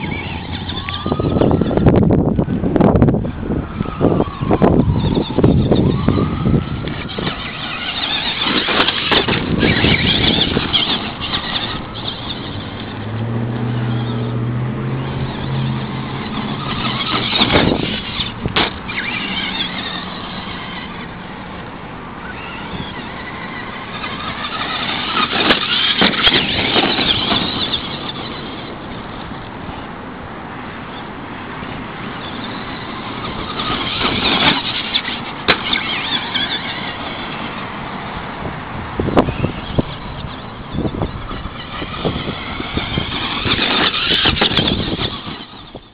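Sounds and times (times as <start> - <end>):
toy truck electric motor whining: 0.0 - 2.1, 3.8 - 29.9, 30.9 - 38.4, 39.0 - 45.9.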